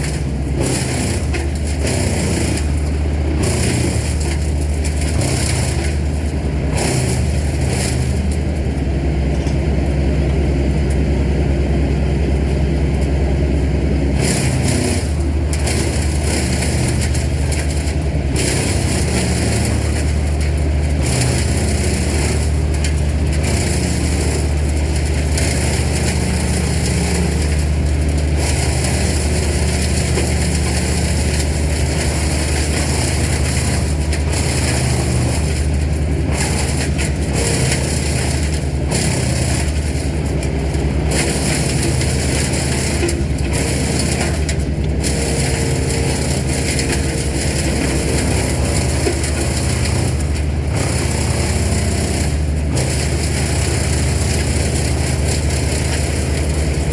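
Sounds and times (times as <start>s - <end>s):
large engine rumbling: 0.0s - 56.9s.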